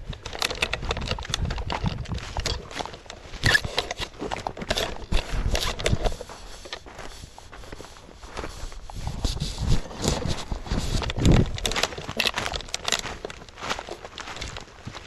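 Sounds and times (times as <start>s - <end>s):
footsteps crunching through dry leaves: 1.9s - 15.0s.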